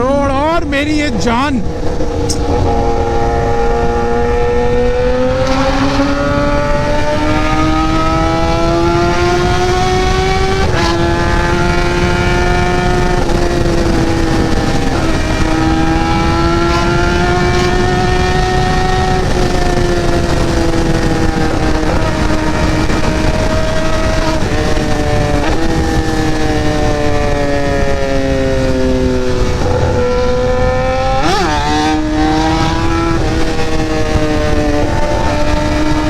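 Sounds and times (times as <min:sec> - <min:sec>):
motorcycle engine accelerating: 0:00.0 - 0:36.0
wind across microphone: 0:00.0 - 0:36.0.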